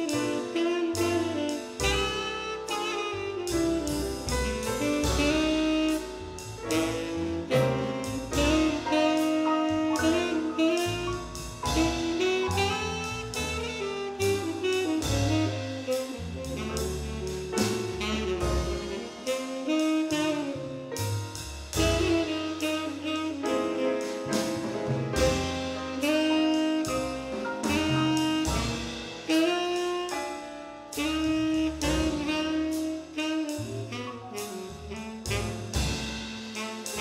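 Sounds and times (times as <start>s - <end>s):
drum kit: 0.0s - 37.0s
tenor saxophone jazz melody: 0.0s - 37.0s.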